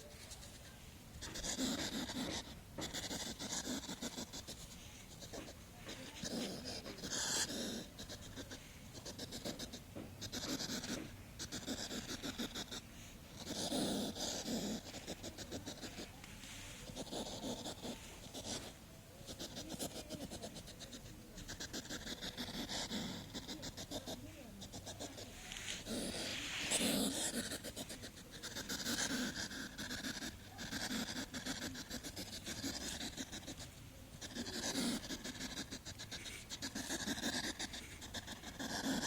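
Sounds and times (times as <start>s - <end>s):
hedgehog snuffling and sniffing: 0.0s - 39.0s.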